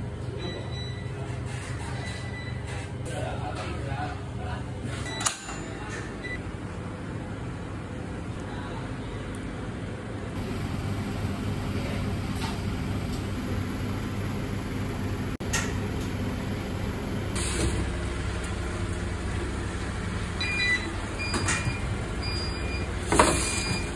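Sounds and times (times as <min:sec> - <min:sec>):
kitchen machinery humming: 0:00.0 - 0:23.9.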